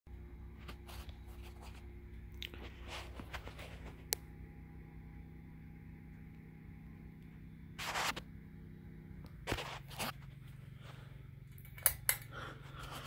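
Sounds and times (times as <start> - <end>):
ceiling fan motor hum: 0.1 - 13.0.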